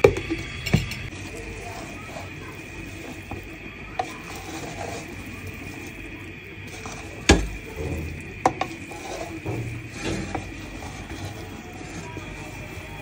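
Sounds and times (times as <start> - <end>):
spatula scraping cooking pot: 0.6 - 13.0.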